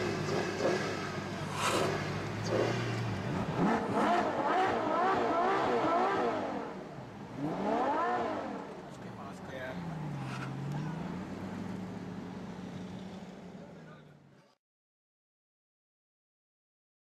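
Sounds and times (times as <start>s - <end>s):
supercar engine revving: 0.0s - 13.7s.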